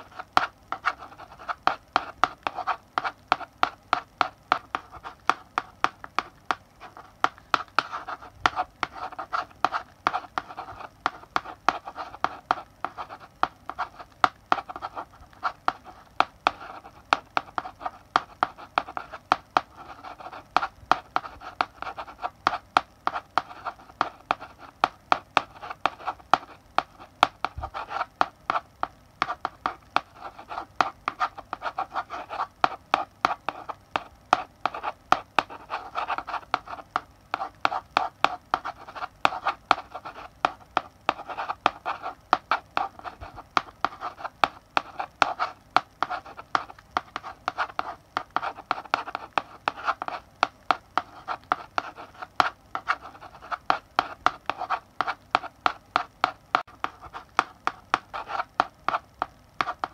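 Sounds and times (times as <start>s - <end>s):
chalk writing on blackboard: 0.0s - 59.9s.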